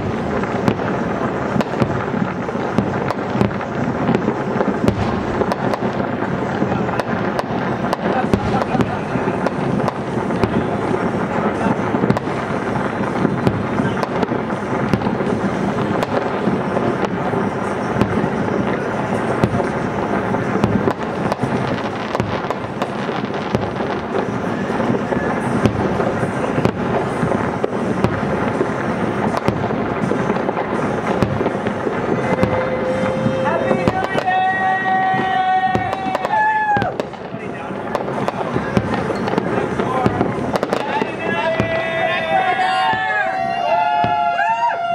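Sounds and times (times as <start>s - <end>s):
firework shells bursting: 0.0s - 44.9s.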